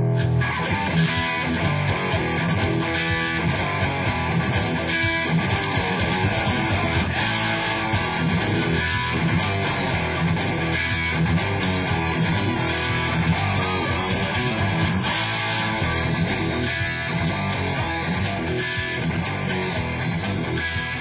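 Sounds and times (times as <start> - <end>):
electric guitar playing: 0.0 - 21.0
recorded rock song: 0.0 - 21.0.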